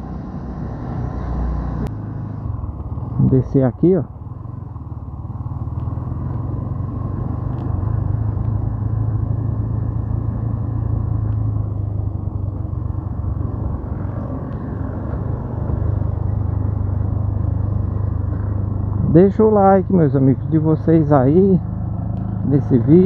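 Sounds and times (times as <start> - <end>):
motorcycle engine drone: 0.0 - 23.0
road rumble on paving stones: 0.0 - 23.0.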